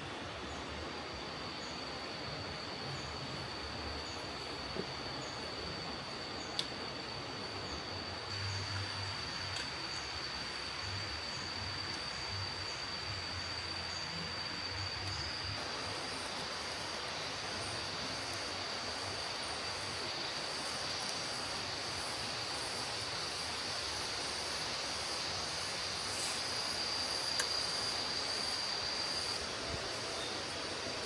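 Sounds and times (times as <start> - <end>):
high-pitched insect trill: 0.0 - 31.0.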